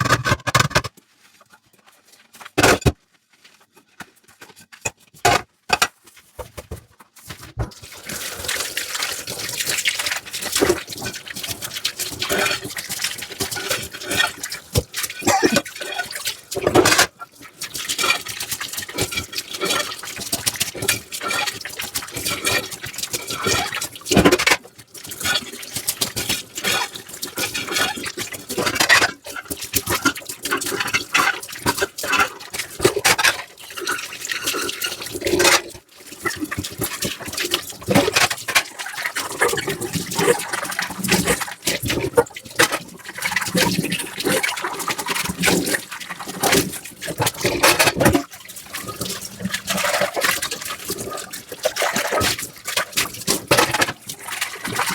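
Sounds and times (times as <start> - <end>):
dish scrubbing: 0.0 - 0.9, 2.6 - 3.0, 4.8 - 6.7, 7.3 - 24.6, 26.6 - 54.9
water running and splashing: 7.8 - 54.9.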